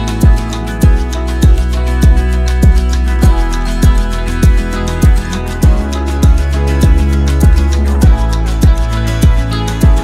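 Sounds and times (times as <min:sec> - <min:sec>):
deep drum beat: 0:00.0 - 0:10.0.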